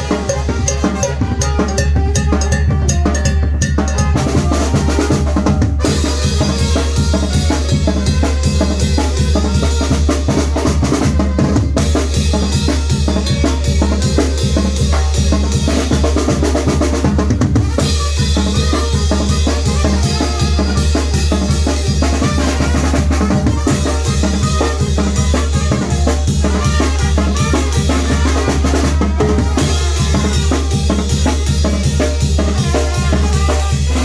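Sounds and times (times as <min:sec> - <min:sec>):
loud drum-heavy dance music: 0:00.0 - 0:34.0.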